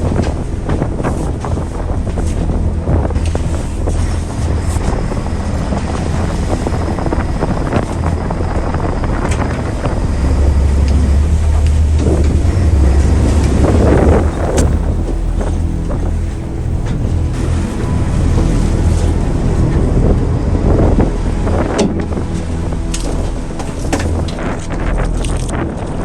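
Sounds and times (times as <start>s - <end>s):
boat engine running: 0.0s - 26.0s
wind buffeting microphone: 0.0s - 26.0s.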